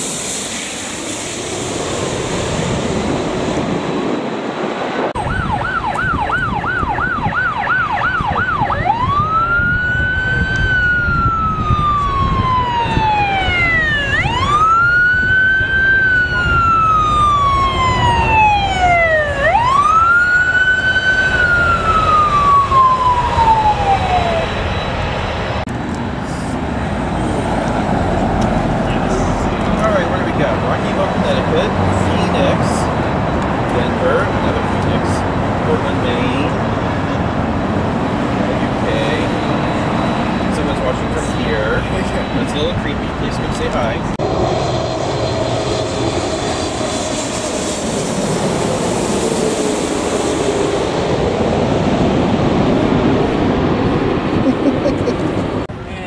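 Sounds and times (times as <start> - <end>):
emergency vehicle siren: 5.1 - 55.7.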